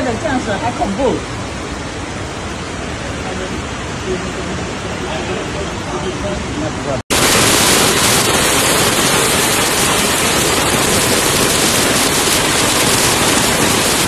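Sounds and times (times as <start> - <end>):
floodwater rushing: 0.0 - 14.0
torrential rain: 0.0 - 14.0.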